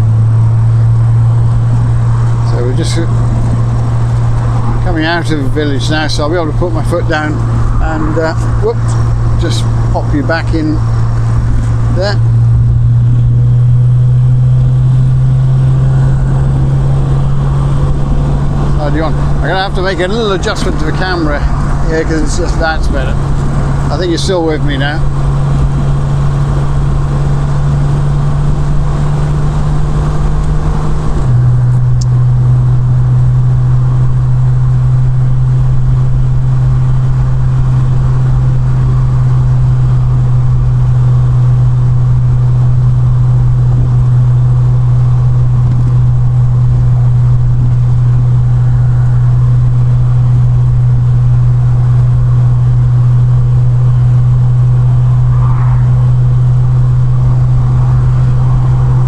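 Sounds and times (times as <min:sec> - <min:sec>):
car engine running at speed: 0:00.0 - 0:59.0
wind and road noise: 0:00.0 - 0:59.0.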